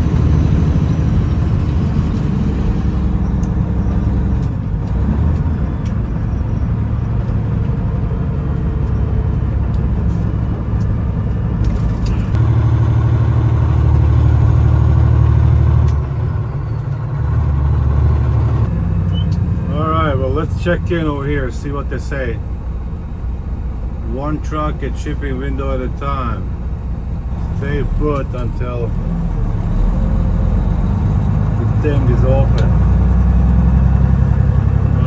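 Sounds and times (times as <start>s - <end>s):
truck diesel engine rumbling: 0.0s - 35.0s.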